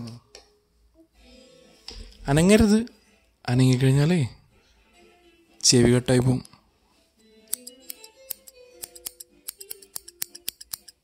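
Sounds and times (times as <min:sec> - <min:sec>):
faint song from speaker: 0:00.0 - 0:11.0.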